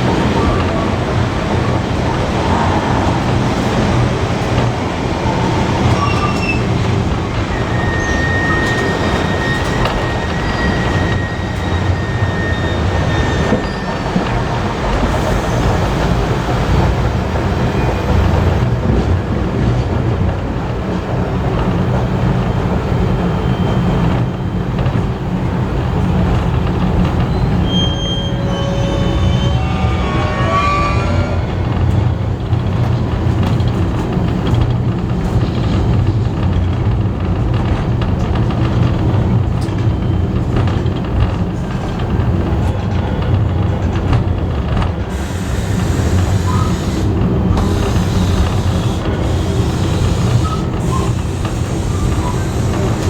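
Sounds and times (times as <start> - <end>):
wheel squeal against rail: 0.0 - 18.9, 22.2 - 25.1, 26.1 - 34.6, 39.4 - 42.0, 42.6 - 53.0
train wheels rumbling: 0.0 - 53.0.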